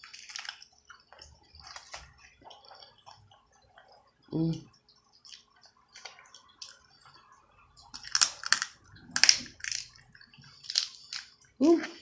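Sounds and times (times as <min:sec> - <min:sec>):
crackly chewing: 0:00.0 - 0:12.0.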